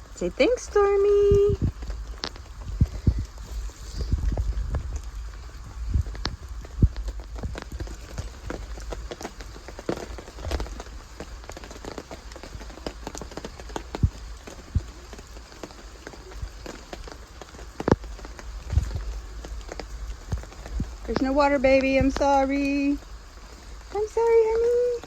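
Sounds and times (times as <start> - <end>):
rain falling: 0.0 - 25.0
raindrops pattering on surfaces: 0.0 - 25.0.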